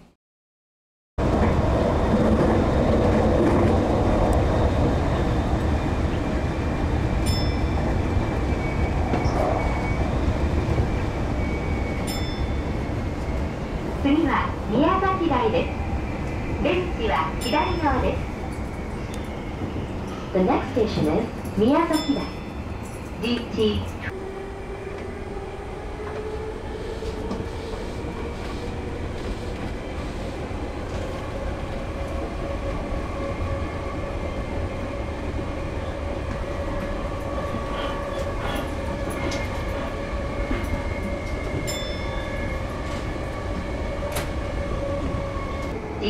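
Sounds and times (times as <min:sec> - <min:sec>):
wheels rumbling on rails: 0:01.2 - 0:46.0.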